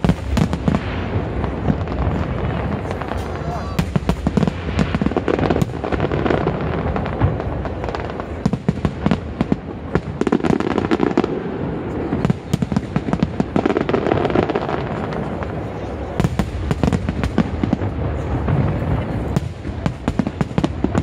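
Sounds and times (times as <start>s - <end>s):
continuous rumble: 0.0s - 10.2s, 11.3s - 21.0s.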